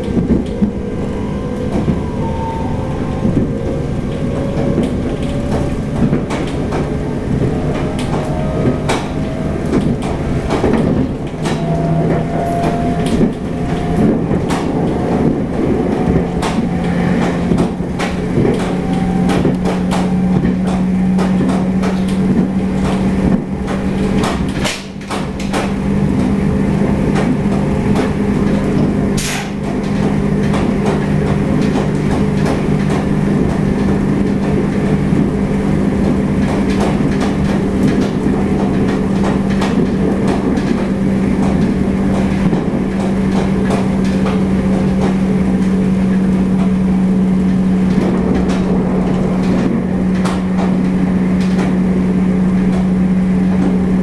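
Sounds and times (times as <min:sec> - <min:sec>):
train running inside carriage: 0:00.0 - 0:54.0.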